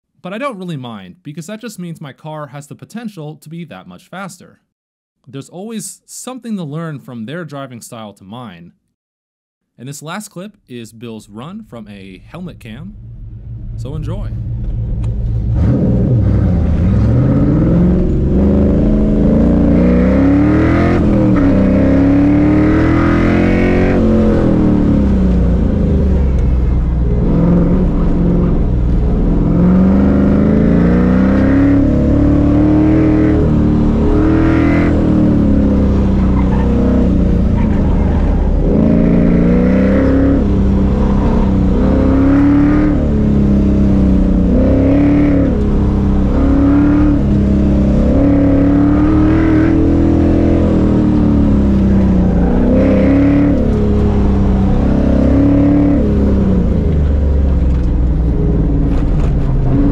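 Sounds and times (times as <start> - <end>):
car engine revving: 11.9 - 59.9.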